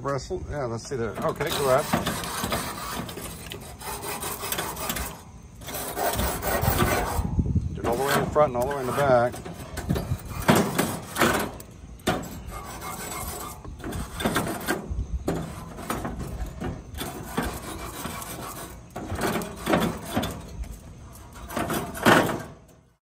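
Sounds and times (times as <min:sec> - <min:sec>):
wire brush scraping grill grates: 0:00.1 - 0:23.0.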